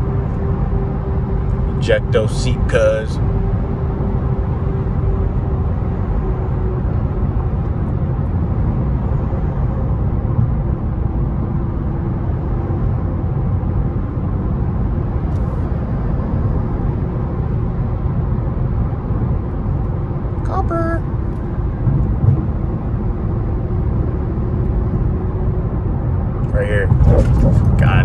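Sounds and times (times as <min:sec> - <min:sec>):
car engine and tyres low rumble: 0:00.0 - 0:28.0.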